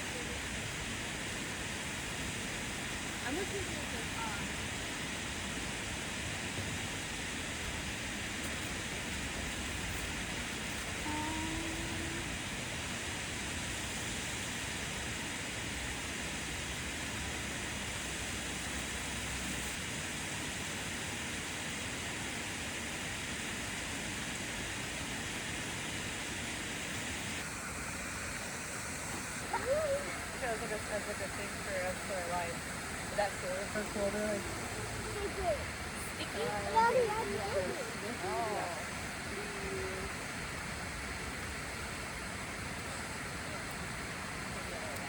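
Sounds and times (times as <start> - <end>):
waterfall rushing: 0.0 - 19.7, 27.1 - 45.0.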